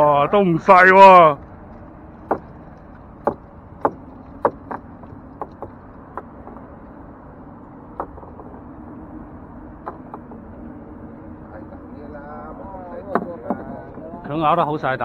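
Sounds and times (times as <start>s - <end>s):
steady low hum: 0.0s - 15.0s
waves knocking on metal hull: 0.6s - 11.2s, 12.8s - 14.9s.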